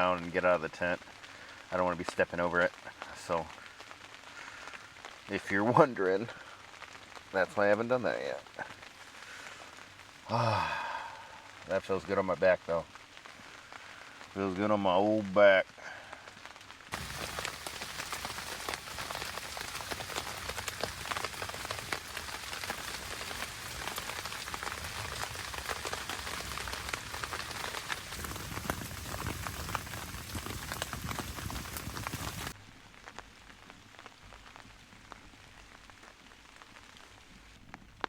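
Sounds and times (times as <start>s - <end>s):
steady rain pattering: 0.0s - 38.0s.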